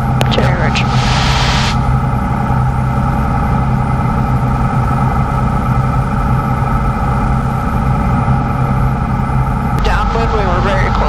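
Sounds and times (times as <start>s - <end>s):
light aircraft cabin drone: 0.0s - 11.0s.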